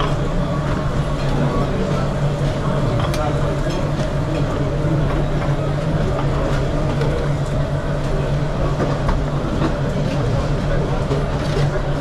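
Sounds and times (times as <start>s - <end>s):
kitchen extraction fans drone: 0.0s - 12.0s.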